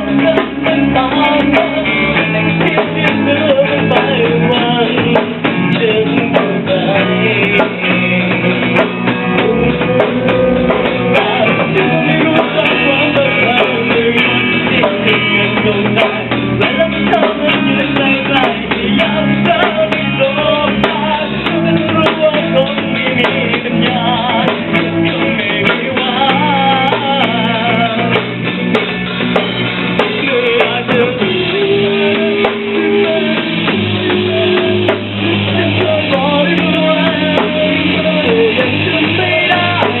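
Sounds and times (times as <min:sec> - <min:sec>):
rock song with singing: 0:00.0 - 0:40.0.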